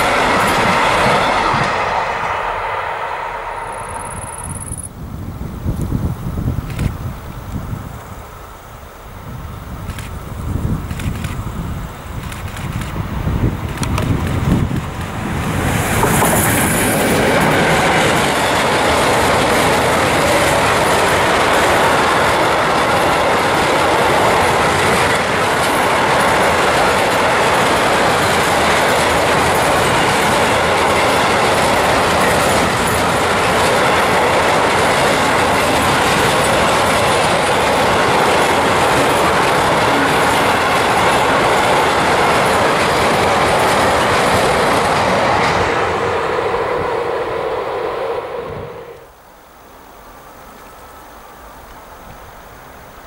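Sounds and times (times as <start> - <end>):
train wheels rumbling on rail: 0.0 - 49.2.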